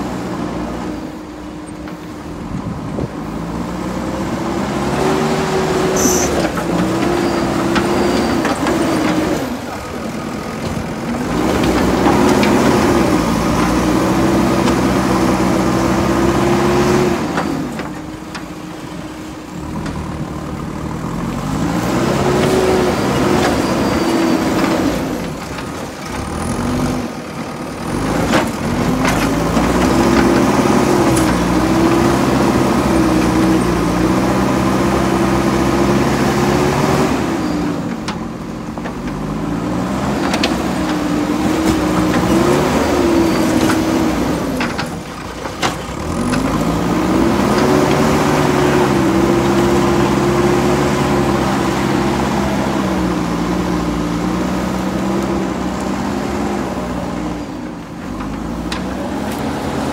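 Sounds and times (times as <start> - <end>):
diesel engine revving under load: 0.0 - 59.9.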